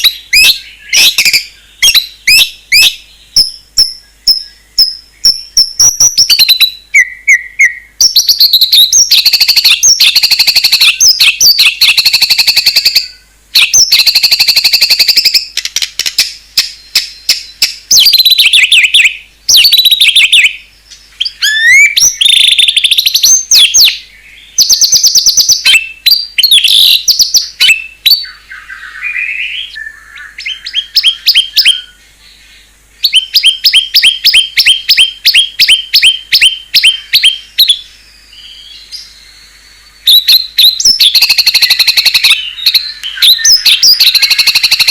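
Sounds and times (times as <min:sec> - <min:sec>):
bird singing trills and whistles: 0:00.0 - 0:44.9.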